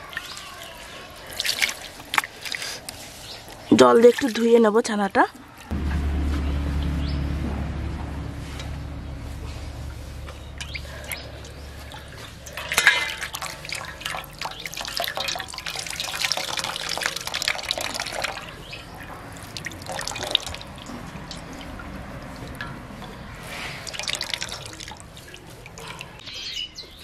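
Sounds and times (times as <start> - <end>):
water splashing and dripping: 0.0 - 4.8, 5.6 - 26.2.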